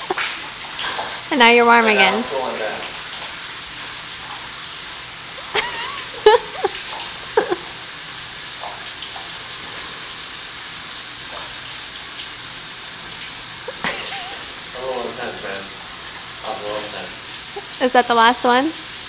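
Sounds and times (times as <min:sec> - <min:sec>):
shower spraying: 0:00.0 - 0:19.0.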